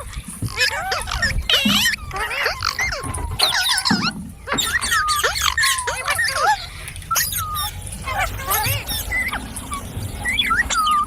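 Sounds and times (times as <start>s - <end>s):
parrot chirping and squawking: 0.0s - 11.0s.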